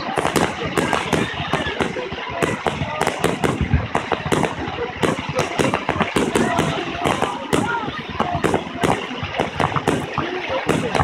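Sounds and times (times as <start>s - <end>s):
fireworks bursts and crackling: 0.0s - 11.0s.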